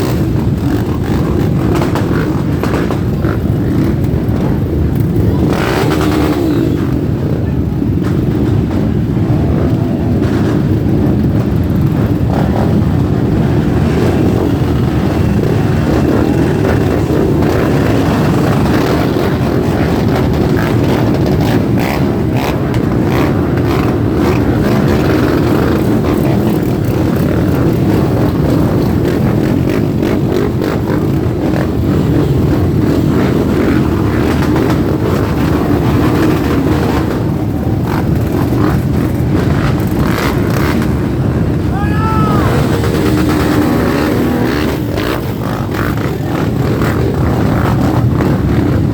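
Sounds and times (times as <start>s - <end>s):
motorcycle engines rumbling: 0.0s - 48.9s.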